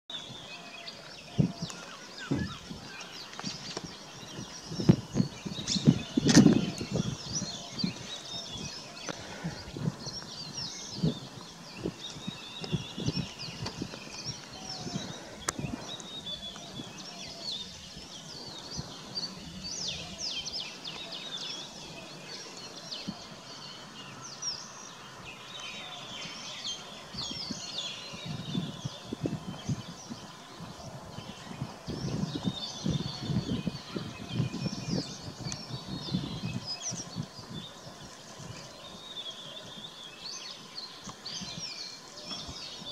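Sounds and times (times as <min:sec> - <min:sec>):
small birds chirping and singing: 0:00.1 - 0:42.9.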